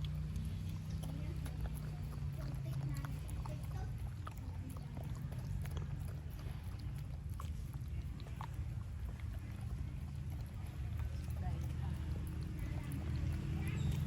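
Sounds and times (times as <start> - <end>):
dog chewing: 0.0 - 14.0.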